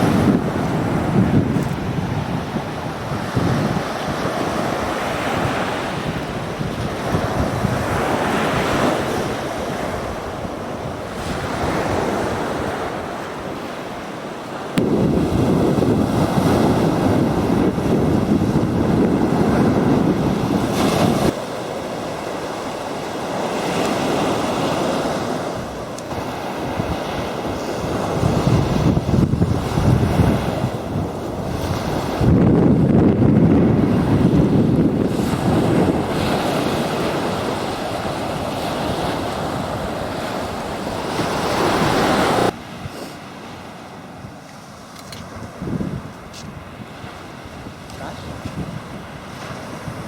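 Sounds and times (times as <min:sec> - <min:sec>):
heavy wind rumble: 0:00.0 - 0:14.0, 0:14.7 - 0:44.5, 0:45.2 - 0:50.0
sea waves washing on shore: 0:00.0 - 0:50.0
wind buffeting microphone: 0:00.0 - 0:50.0.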